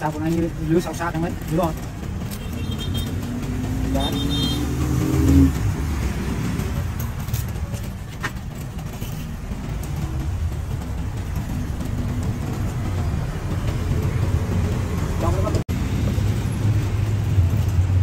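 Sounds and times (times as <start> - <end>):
low rumble of road traffic: 0.0 - 18.0.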